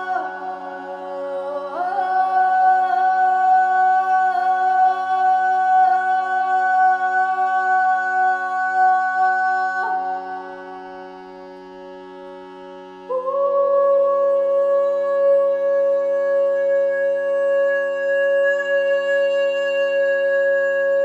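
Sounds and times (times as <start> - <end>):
person chanting: 0.0 - 10.8, 13.0 - 21.0.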